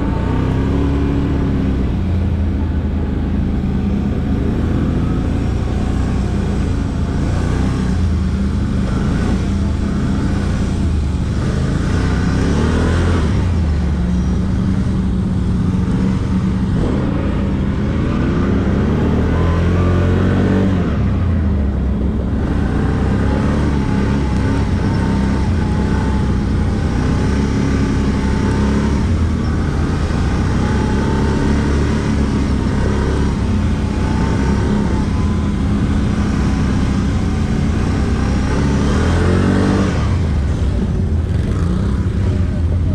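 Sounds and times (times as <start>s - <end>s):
atv engine revving: 0.0s - 42.9s.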